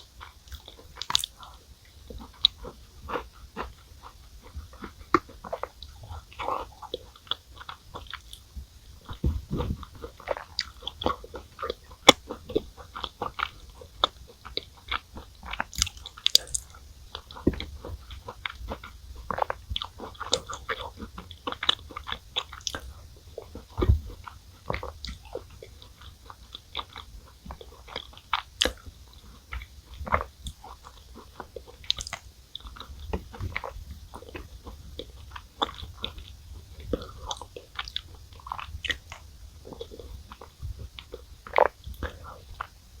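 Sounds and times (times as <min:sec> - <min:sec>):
mouth clicks: 0:00.0 - 0:42.8
chewing and crunching cookies: 0:00.0 - 0:43.0.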